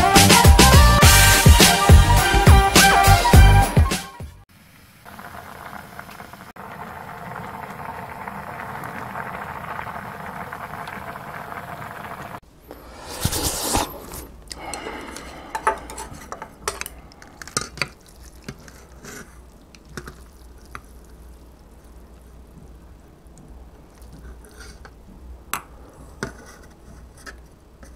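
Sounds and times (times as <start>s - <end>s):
broth boiling on a gas stove: 4.5s - 27.9s.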